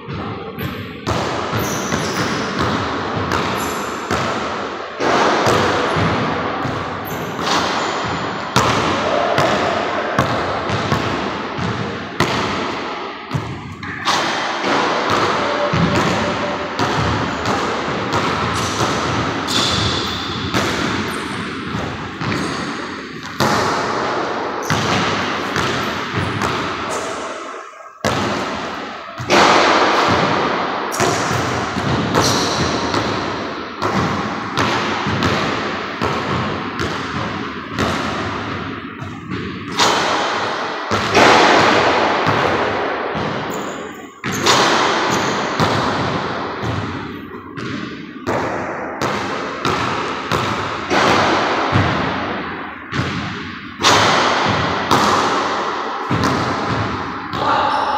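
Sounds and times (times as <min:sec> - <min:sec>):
basketball bouncing on wooden floor: 0:00.1 - 0:27.3, 0:28.0 - 0:57.1.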